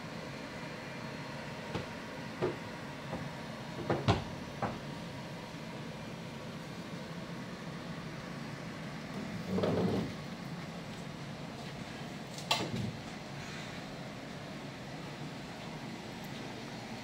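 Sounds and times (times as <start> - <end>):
ferry onboard hum: 0.0 - 17.0.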